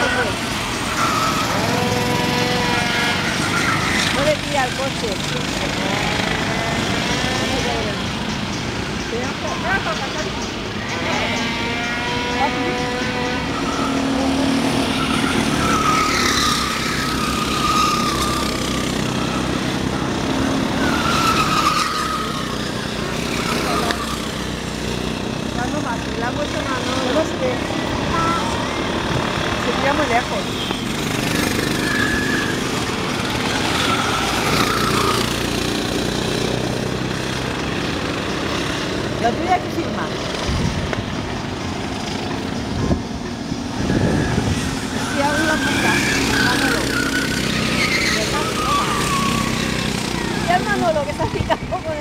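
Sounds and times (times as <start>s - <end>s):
go-kart engines whining: 0.0s - 52.0s.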